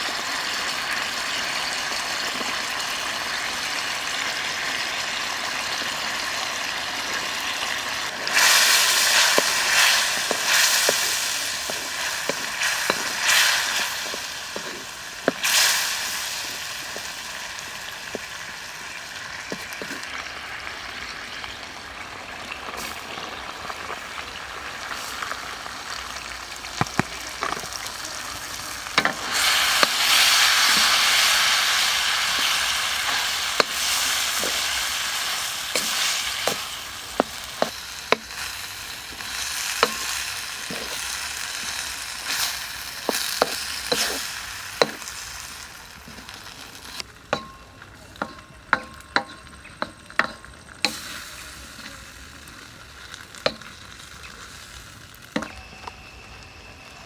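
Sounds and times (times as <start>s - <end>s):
fire crackling and popping: 0.0s - 56.6s
food sizzling over a fire: 0.0s - 57.0s.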